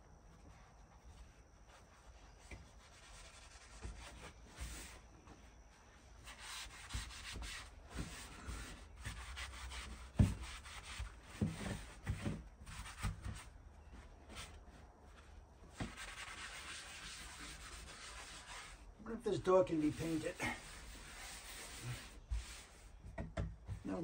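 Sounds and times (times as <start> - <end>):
eraser sponge scrubbing a door: 0.3 - 24.0.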